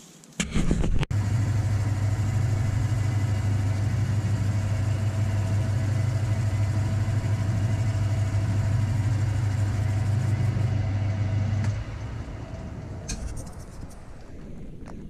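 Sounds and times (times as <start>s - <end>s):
lathe motor humming: 1.1s - 14.2s.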